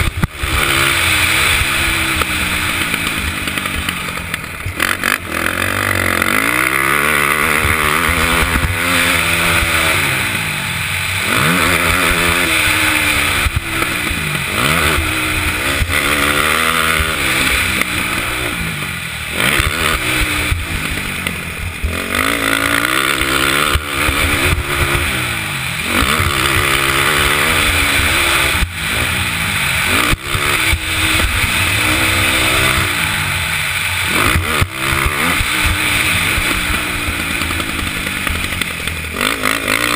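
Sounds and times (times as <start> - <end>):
motocross bike engine revving: 0.0 - 39.9
steady rushing hiss: 0.0 - 39.9.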